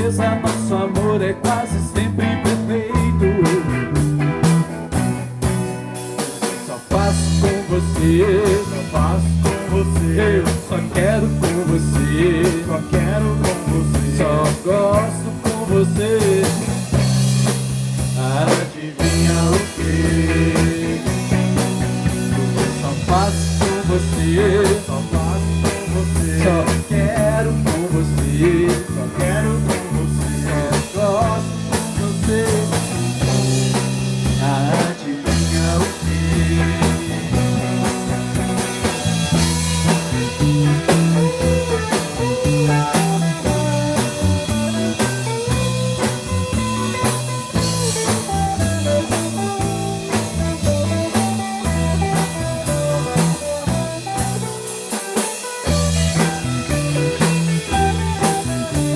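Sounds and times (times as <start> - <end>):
bass line: 0.0 - 58.9
drum kit beat: 0.0 - 58.9
lead melody with bending notes: 0.0 - 58.9.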